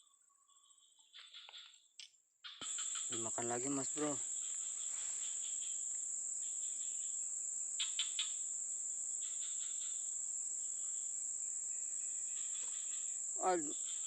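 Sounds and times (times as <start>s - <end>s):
insects chirping: 0.0s - 14.0s
crickets trilling: 2.4s - 14.0s.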